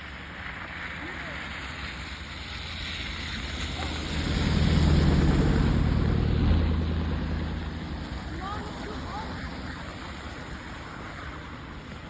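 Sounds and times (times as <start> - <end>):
vehicle engine passing by: 0.6 - 11.5.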